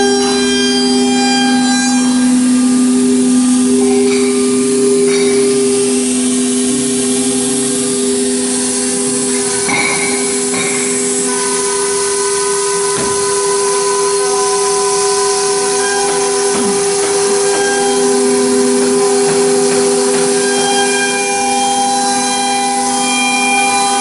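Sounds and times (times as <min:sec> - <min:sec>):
router spindle whine: 0:00.0 - 0:24.0.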